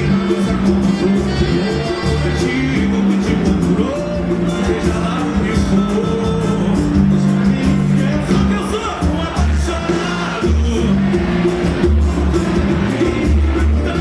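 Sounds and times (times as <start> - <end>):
steady percussion beat: 0.0 - 14.0
sustained bass notes: 0.0 - 14.0.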